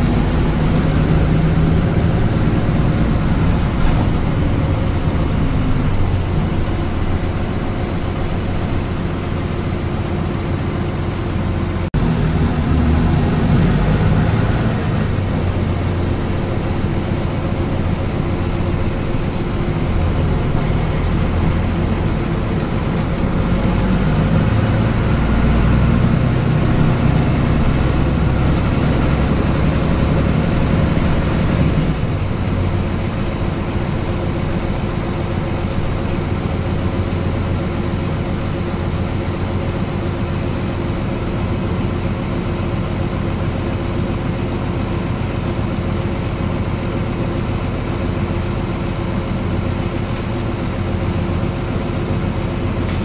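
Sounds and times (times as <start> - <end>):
bus diesel engine rumbling: 0.0 - 53.0.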